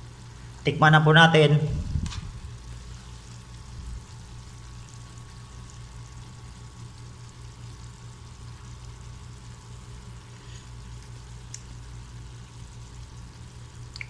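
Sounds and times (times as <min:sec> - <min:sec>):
light hiss: 0:01.7 - 0:14.0.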